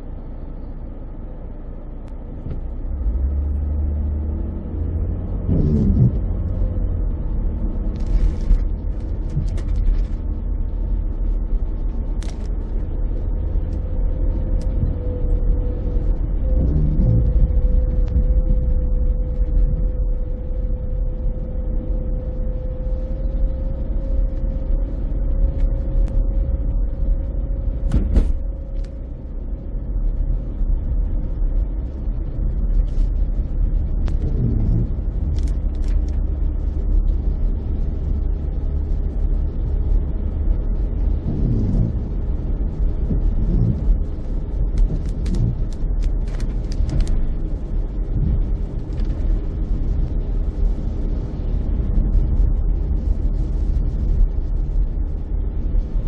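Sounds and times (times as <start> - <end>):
car road and engine rumble: 0.0 - 56.0
steady hum: 4.4 - 56.0.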